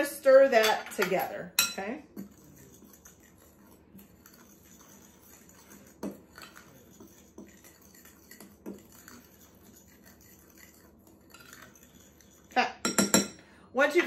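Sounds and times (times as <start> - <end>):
utensil scraping glass bowl: 0.6 - 13.4.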